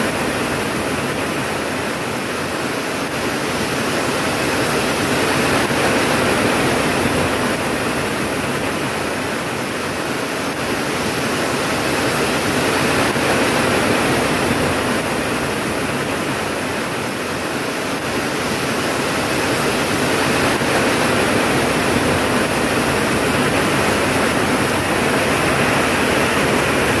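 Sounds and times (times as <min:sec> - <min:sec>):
heavy rain hissing: 0:00.0 - 0:27.0.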